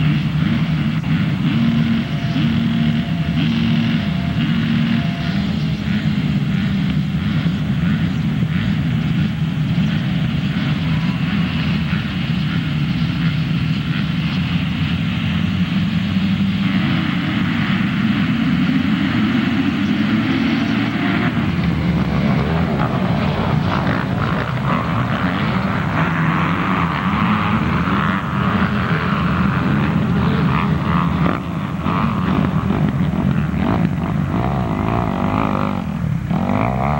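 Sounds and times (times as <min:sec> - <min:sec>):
motorcycle accelerating: 0:00.0 - 0:36.9
motorcycle engines droning: 0:00.0 - 0:36.9.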